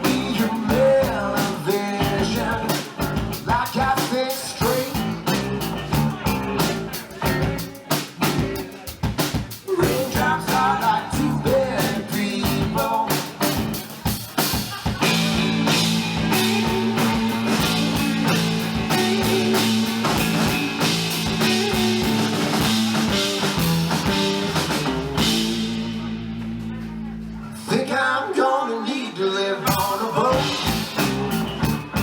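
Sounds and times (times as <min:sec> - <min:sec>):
live rock band playing: 0:00.0 - 0:27.5, 0:29.7 - 0:32.0.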